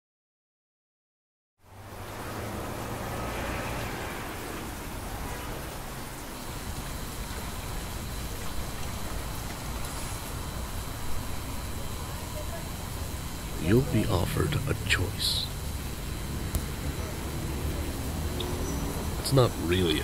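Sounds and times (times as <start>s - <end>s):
steady rain: 1.6s - 20.0s.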